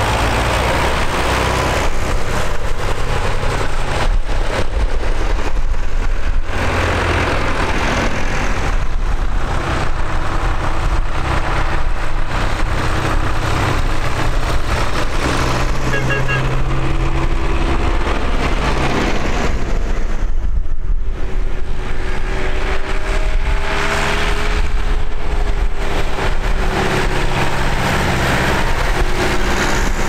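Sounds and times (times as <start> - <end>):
tractor engines passing: 0.0 - 30.0.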